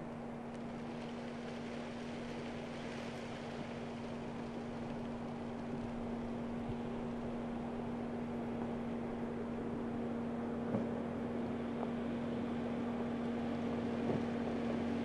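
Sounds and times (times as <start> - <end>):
engine running at low crawl: 0.0 - 15.0.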